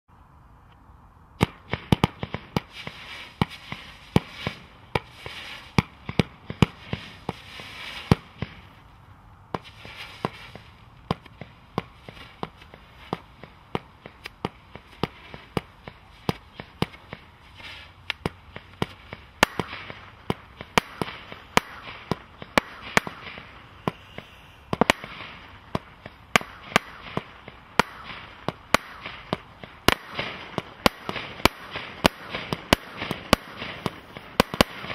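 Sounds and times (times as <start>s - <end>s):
firework bangs: 1.4s - 8.8s, 9.4s - 34.9s
firework hissing: 1.7s - 8.8s, 9.6s - 34.9s.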